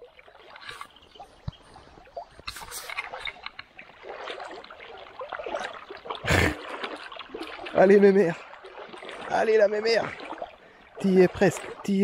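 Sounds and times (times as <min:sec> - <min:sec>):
fish thrashing in shallow water: 0:00.0 - 0:12.0.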